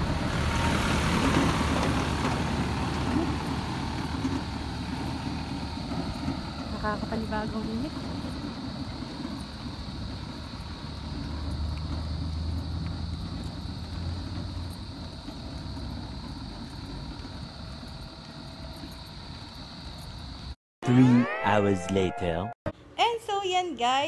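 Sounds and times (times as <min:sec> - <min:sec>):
vehicle engine humming: 0:00.0 - 0:20.6.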